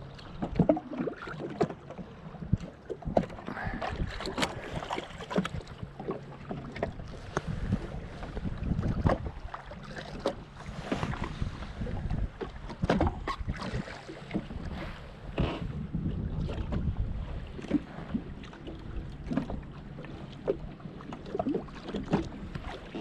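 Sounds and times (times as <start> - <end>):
small waves slapping against hull: 0.0 - 23.0
wind rumble on microphone: 0.0 - 23.0.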